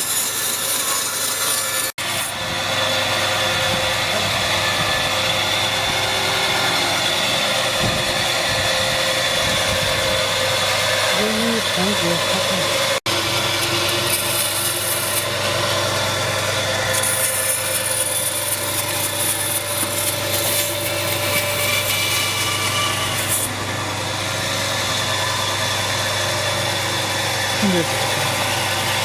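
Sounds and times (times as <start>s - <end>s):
saw cutting wood: 0.0s - 29.0s
steady motor hum: 0.0s - 29.0s.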